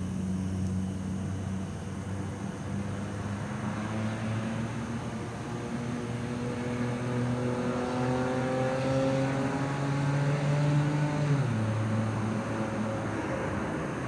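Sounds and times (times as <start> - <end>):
car engine accelerating: 2.6 - 14.0.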